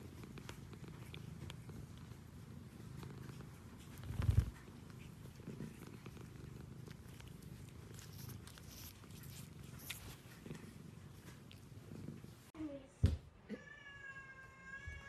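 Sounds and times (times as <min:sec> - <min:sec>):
cat purring: 0:00.0 - 0:12.5.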